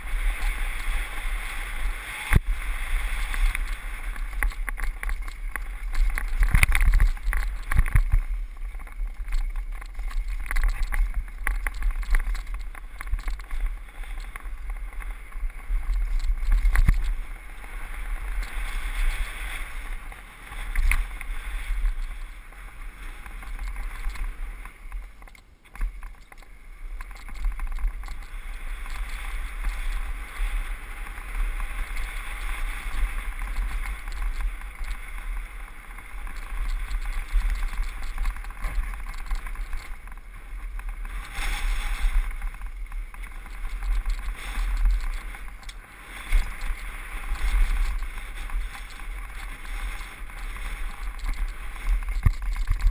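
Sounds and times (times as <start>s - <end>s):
bike rattling over bumps: 0.0s - 52.9s
tyre noise on loose dirt: 0.0s - 52.9s
wind rumbling on microphone: 0.0s - 52.9s.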